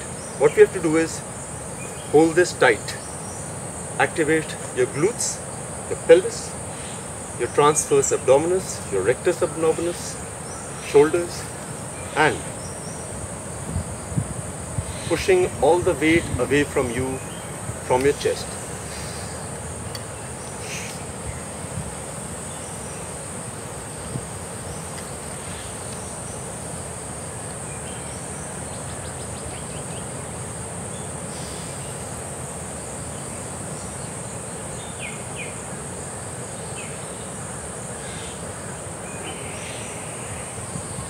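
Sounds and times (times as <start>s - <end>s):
insect chorus drone: 0.0s - 41.0s.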